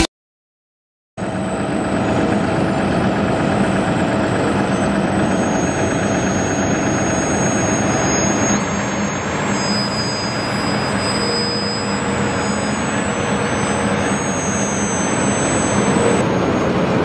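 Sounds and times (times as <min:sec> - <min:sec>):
heavy diesel engines running: 0:01.2 - 0:17.0.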